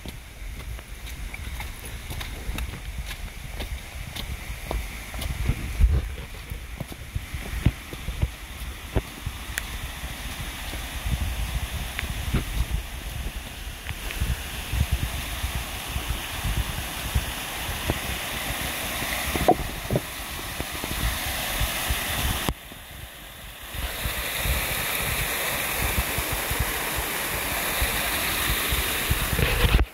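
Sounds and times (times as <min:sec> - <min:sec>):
waterfall rushing over rocks: 0:00.0 - 0:29.9
wind buffeting microphone: 0:00.0 - 0:29.9.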